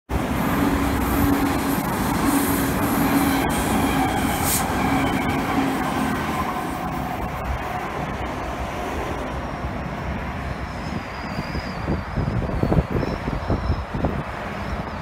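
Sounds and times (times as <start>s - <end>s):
electric train passing: 0.1s - 15.0s.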